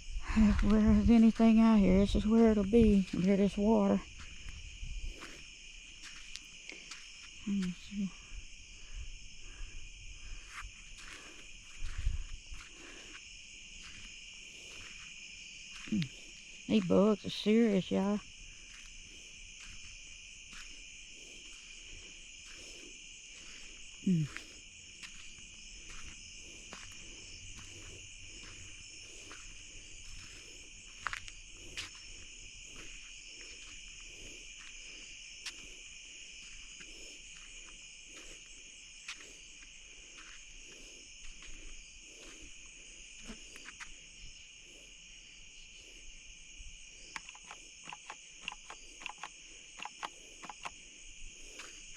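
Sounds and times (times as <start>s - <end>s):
crickets and insects trilling: 0.0s - 51.9s.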